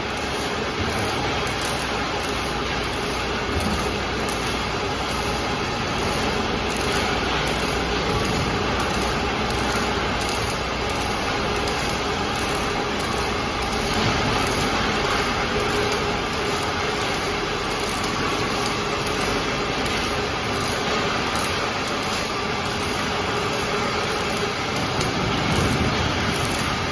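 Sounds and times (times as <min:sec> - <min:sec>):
welding machine drone: 0:00.0 - 0:26.9.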